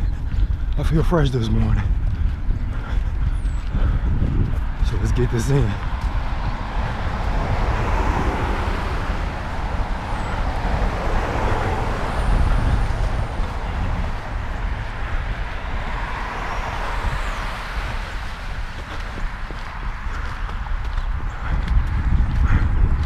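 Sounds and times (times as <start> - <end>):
low traffic rumble: 0.0 - 23.0
vehicles going by: 0.0 - 23.0.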